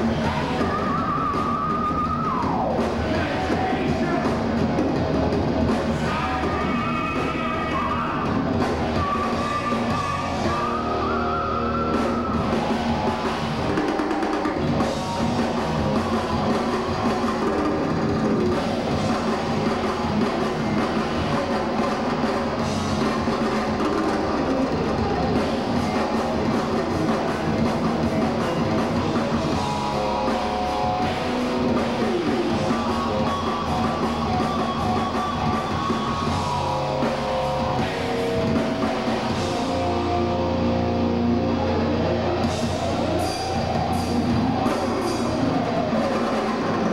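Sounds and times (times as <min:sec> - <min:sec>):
distorted electric guitars: 0:00.0 - 0:46.9
drum kit: 0:00.0 - 0:46.9.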